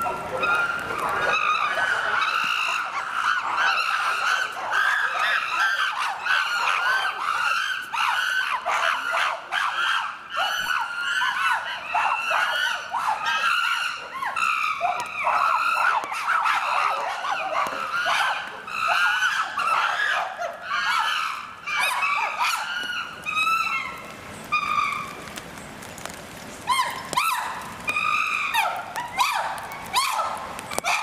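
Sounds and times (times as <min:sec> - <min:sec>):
chimpanzees screaming and calling: 0:00.0 - 0:25.4, 0:26.0 - 0:31.0.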